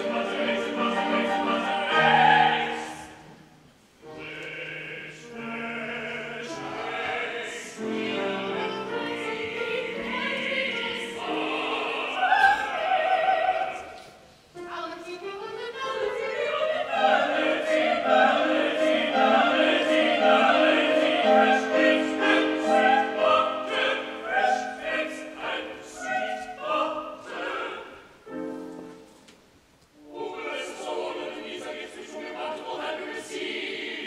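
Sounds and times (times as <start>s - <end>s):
operatic ensemble singing: 0.0s - 3.4s, 4.0s - 28.7s, 30.0s - 34.0s.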